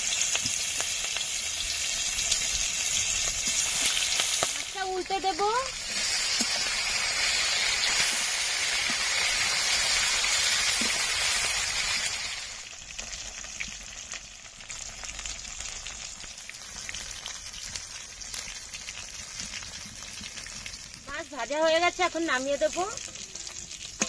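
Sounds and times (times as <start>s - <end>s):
fish sizzling in hot oil: 0.0s - 24.0s
oil popping and crackling: 0.0s - 24.0s.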